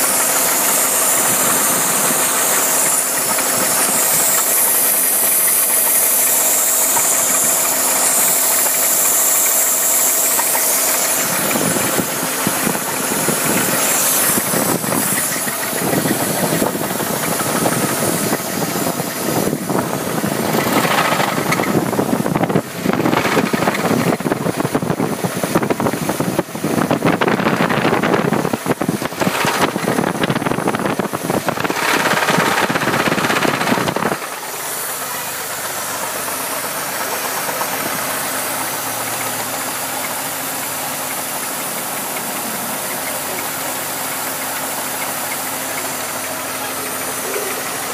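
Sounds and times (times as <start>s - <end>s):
hiss: 0.0s - 25.4s, 27.4s - 47.9s
engine running: 0.0s - 47.9s
rapid engine knocking: 0.0s - 47.9s.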